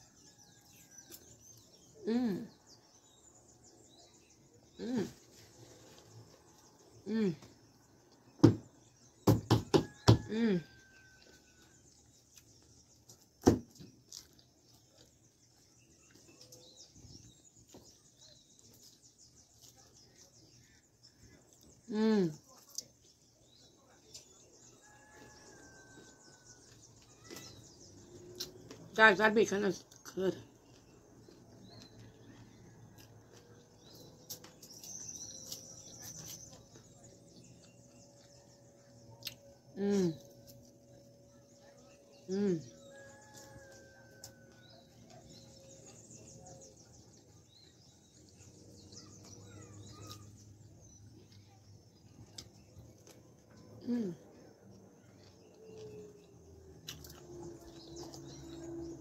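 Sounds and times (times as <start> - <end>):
faint chewing: 0.0 - 9.1, 9.8 - 59.0
faint high chirping: 8.3 - 59.0.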